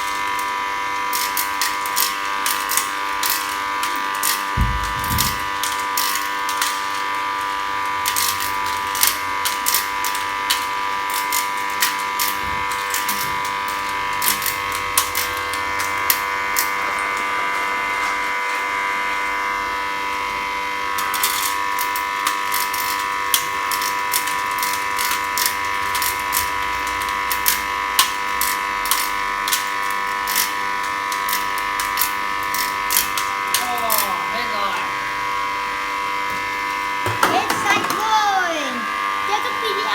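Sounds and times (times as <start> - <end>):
cutting machine whining: 0.0 - 39.9.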